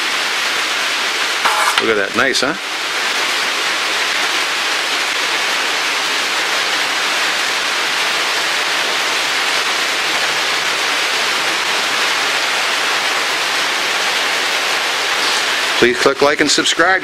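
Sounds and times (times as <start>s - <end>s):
rain on a roof: 0.0s - 17.0s.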